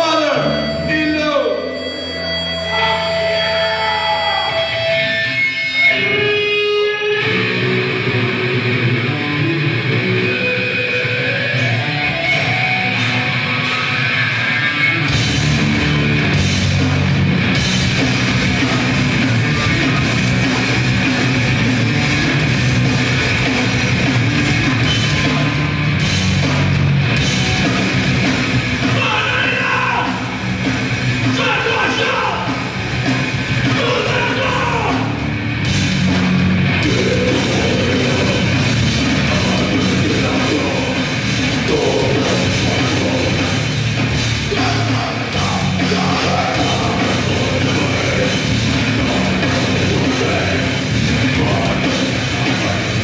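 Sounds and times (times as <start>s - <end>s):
distorted guitar and feedback: 0.0s - 53.0s
loud band playing: 0.0s - 53.0s.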